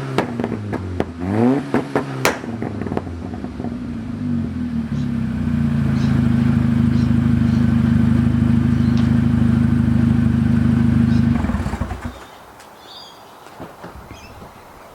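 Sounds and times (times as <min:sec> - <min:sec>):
car engine idling and shutting off: 0:00.0 - 0:12.3.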